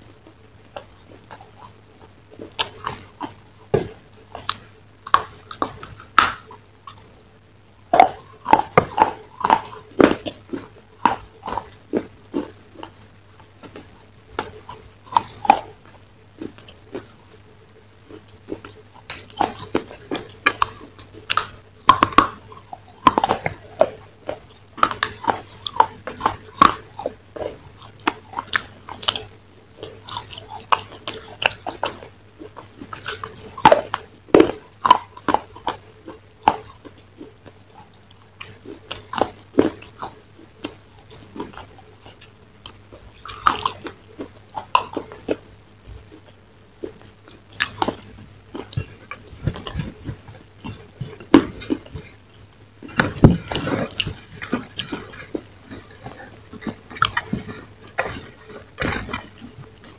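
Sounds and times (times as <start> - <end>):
chewing fried chicken: 0.0 - 59.9.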